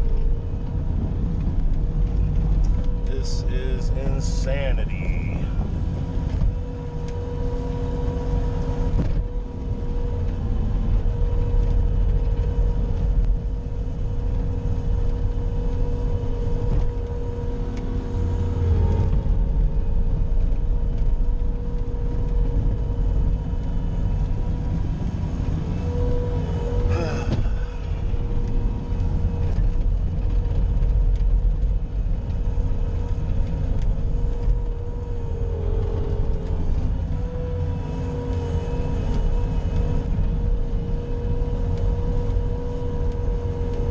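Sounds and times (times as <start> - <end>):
loader engine rumble: 0.0 - 43.9
steady whine: 0.0 - 43.9.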